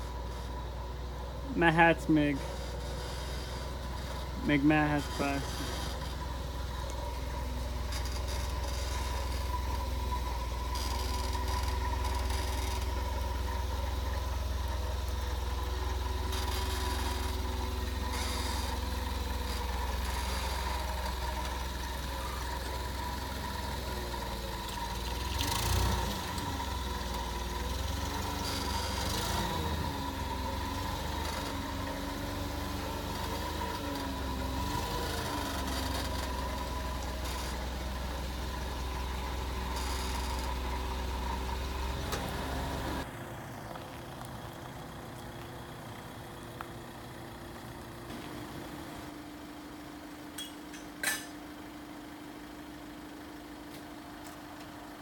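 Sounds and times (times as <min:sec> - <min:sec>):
forklift engine running: 0:00.0 - 0:55.0.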